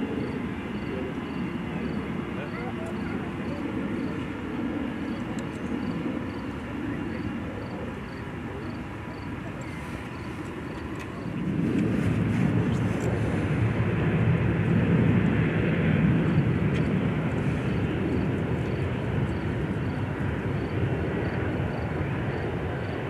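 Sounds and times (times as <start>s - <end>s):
turbofan engines deep rumble: 0.0s - 23.0s.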